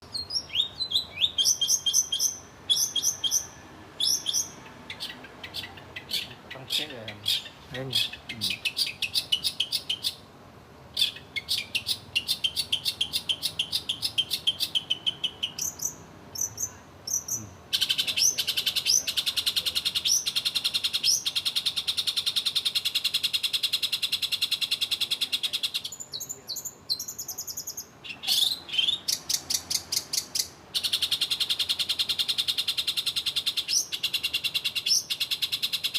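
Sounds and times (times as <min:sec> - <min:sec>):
bird chattering high notes: 0:00.1 - 0:10.2, 0:11.0 - 0:35.9.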